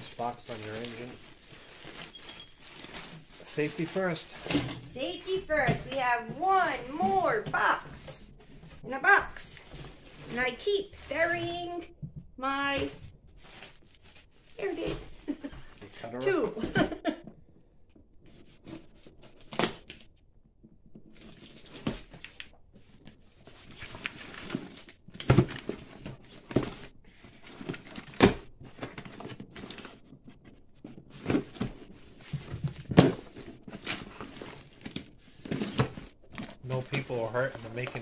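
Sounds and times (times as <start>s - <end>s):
cardboard scraping and crinkling: 0.0s - 11.8s, 12.6s - 15.4s, 18.2s - 19.7s, 21.0s - 38.0s.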